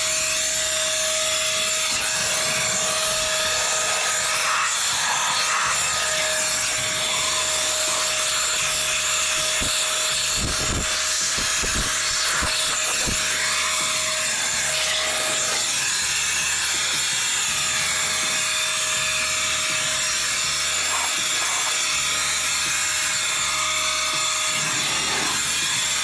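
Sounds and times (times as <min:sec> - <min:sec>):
air duster hissing and whining: 0:00.0 - 0:26.0.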